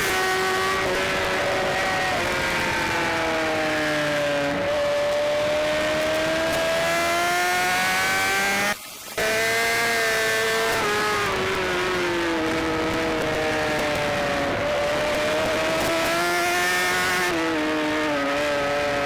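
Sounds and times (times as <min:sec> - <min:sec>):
motorcycle engine at race speed: 0:00.0 - 0:19.0.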